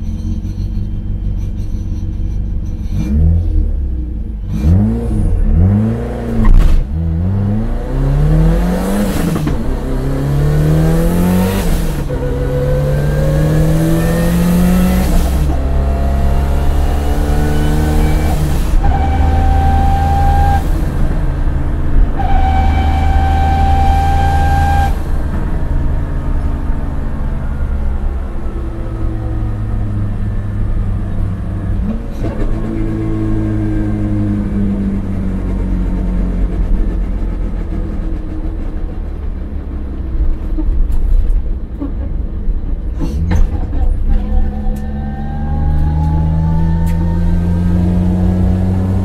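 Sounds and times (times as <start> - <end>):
car engine revving: 2.9 - 39.4, 43.1 - 49.0.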